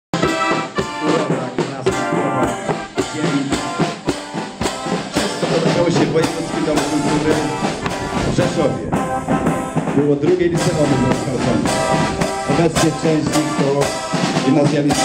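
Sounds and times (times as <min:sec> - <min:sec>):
brass instruments playing march: 0:00.1 - 0:15.0
snare drums: 0:00.1 - 0:15.0
bass drum: 0:00.2 - 0:15.0
cymbals: 0:00.2 - 0:15.0.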